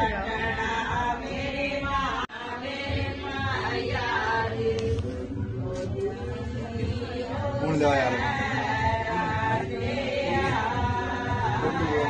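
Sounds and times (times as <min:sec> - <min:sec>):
voices chanting with held notes: 0:00.0 - 0:12.0.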